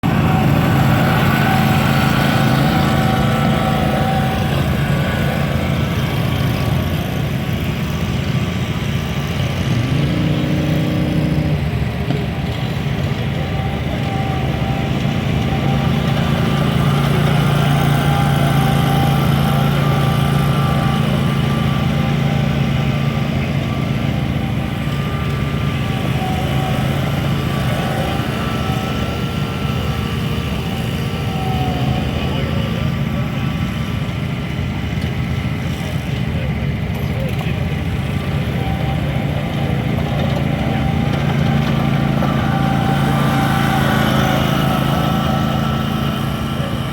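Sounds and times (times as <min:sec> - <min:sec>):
engine revving higher: 0:00.0 - 0:46.9
riding mower engines running: 0:00.0 - 0:46.9.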